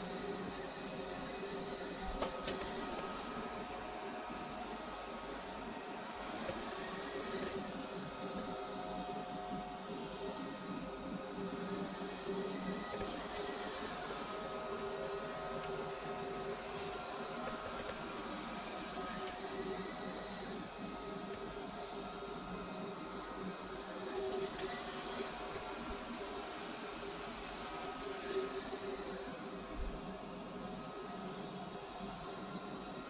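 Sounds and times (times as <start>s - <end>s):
robot vacuum running: 0.0s - 33.0s.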